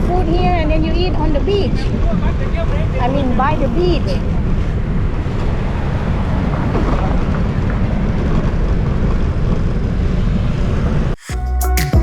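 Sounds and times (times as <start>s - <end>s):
wind rushing over microphone: 0.0s - 11.2s
road traffic: 0.0s - 11.5s.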